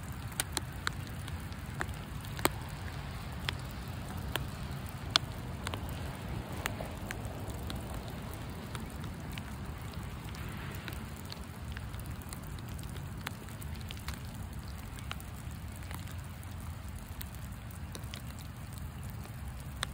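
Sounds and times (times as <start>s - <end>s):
rain falling: 0.0s - 19.9s
raindrops ticking close by: 0.0s - 19.9s.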